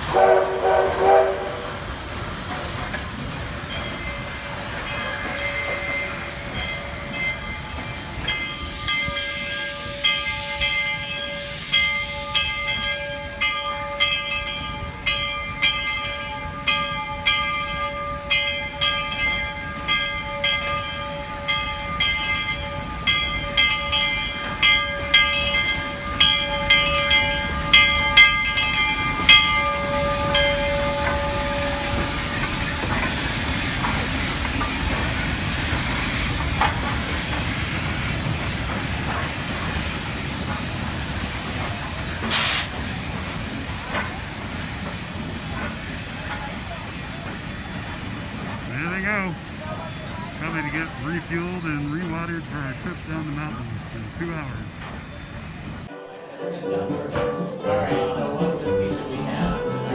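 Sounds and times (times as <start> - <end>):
steam hissing: 0.0 - 13.4, 18.2 - 55.9
locomotive bell ringing: 3.3 - 55.8.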